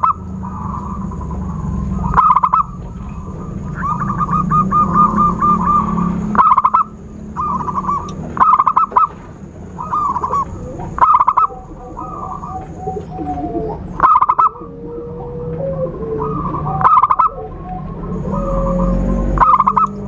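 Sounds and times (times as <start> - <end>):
dove cooing: 0.0 - 20.0
lower wavering bird call: 0.0 - 20.0.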